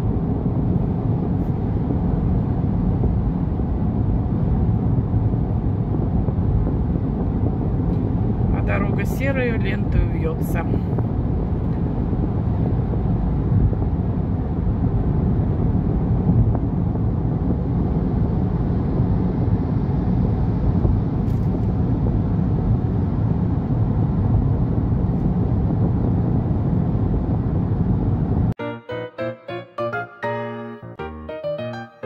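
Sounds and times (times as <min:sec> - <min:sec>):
car road and tyre rumble: 0:00.0 - 0:28.6.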